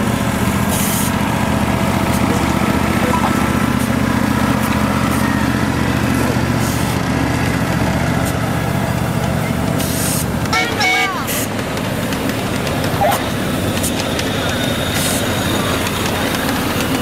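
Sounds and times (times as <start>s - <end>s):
small locomotive engine running: 0.0s - 17.0s.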